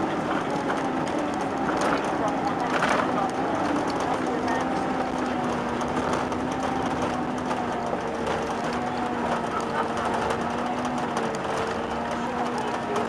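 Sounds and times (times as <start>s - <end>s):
airplane cabin hum: 0.0s - 13.0s.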